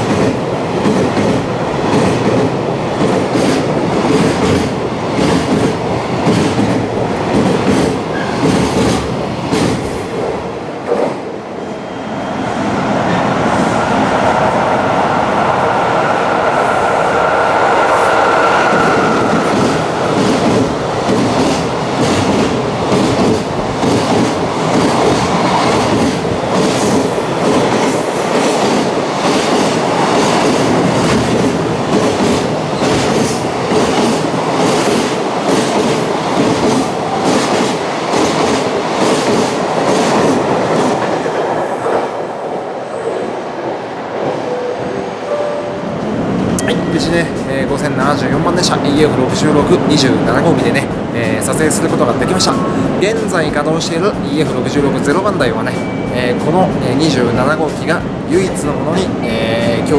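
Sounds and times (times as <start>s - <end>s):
freight train wheels rushing on rail: 0.0s - 59.9s.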